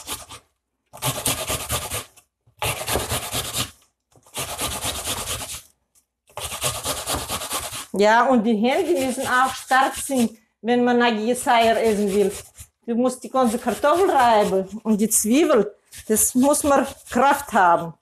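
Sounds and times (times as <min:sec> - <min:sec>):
onion rasping on metal grater: 0:00.0 - 0:00.4, 0:01.0 - 0:05.7, 0:06.4 - 0:08.0, 0:08.7 - 0:10.3, 0:11.2 - 0:17.7.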